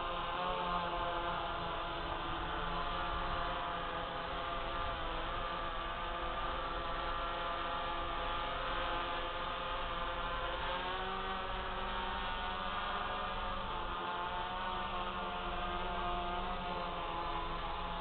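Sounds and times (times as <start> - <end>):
drone motors buzzing: 0.0 - 18.0.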